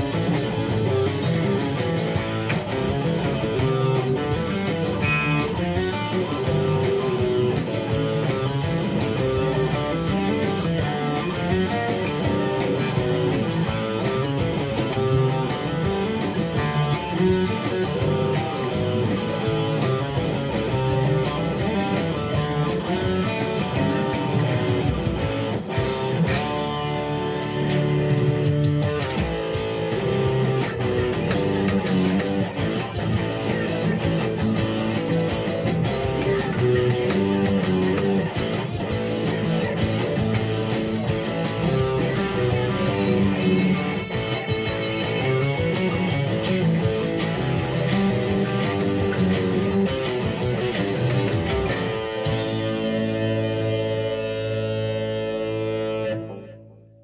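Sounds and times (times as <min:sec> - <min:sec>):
bass line: 0:00.0 - 0:57.0
plucked and strummed guitar: 0:00.0 - 0:57.0.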